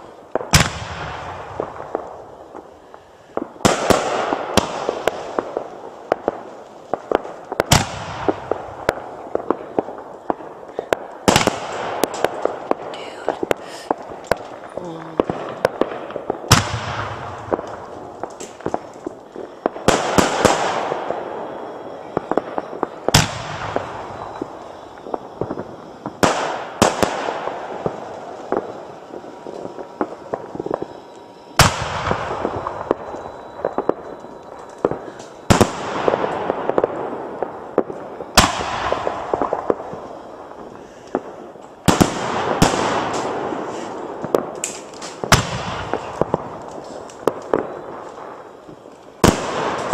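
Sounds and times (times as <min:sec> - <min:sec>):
fireworks bangs: 0:00.0 - 0:49.9
fireworks crackling: 0:00.0 - 0:49.9.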